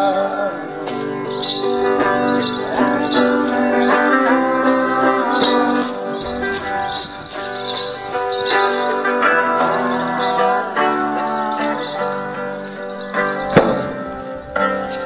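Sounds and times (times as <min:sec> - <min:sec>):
electric guitar: 0:00.0 - 0:15.0
percussion beat: 0:00.5 - 0:15.0.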